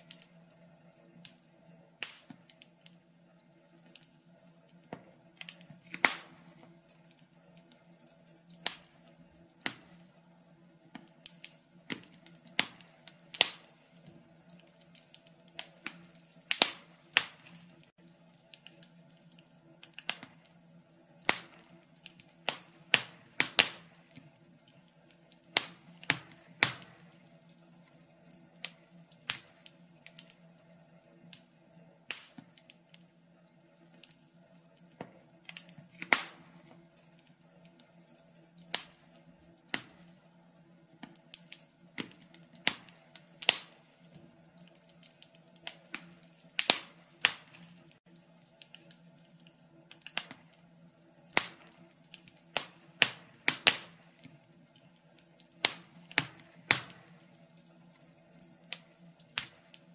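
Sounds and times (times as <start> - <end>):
faint steady hum: 0.0 - 59.9
logs crackling and popping in fire: 0.0 - 59.9.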